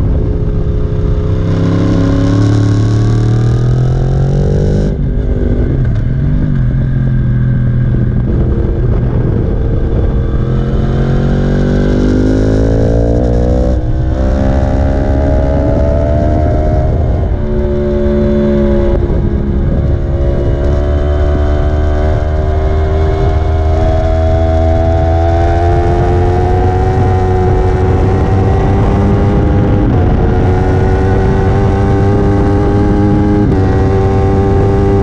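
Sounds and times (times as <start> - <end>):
wind rush: 0.0 - 35.0
motorcycle engine at high revs: 0.9 - 35.0.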